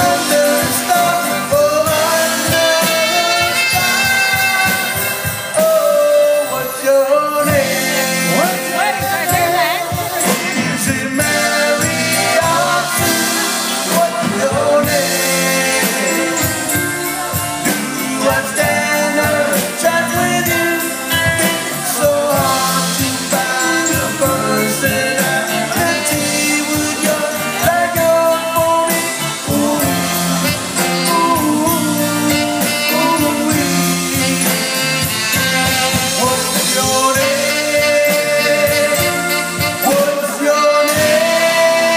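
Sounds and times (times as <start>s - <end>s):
drum kit: 0.0s - 41.9s
electric guitar: 0.0s - 41.9s
horn section playing: 0.0s - 41.9s
person singing: 0.0s - 41.9s.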